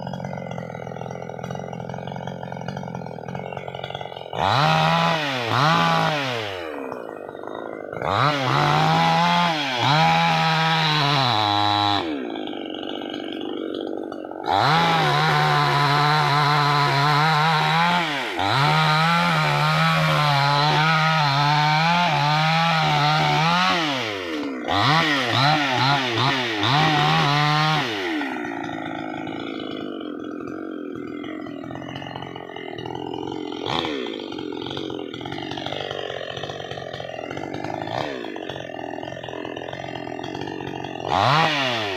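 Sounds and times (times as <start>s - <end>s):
chainsaw revving and idling: 0.0s - 41.9s.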